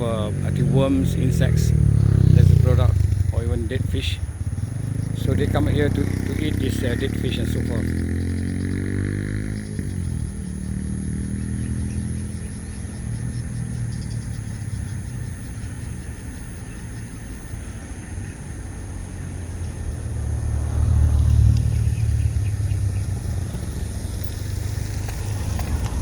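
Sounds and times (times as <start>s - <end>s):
motor engine rumble: 0.0s - 26.0s.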